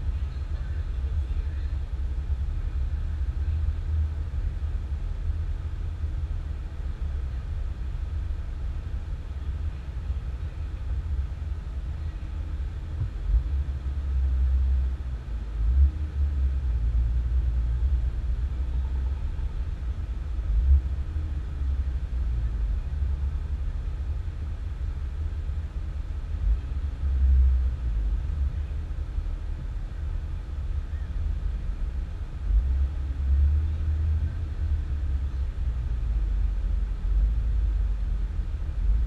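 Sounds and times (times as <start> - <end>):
vehicle rumble from inside cabin: 0.0 - 39.0.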